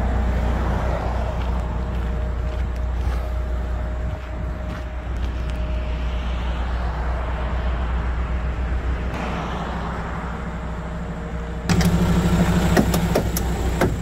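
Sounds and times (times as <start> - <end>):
diesel truck engine idling: 0.0 - 6.6, 7.8 - 14.0.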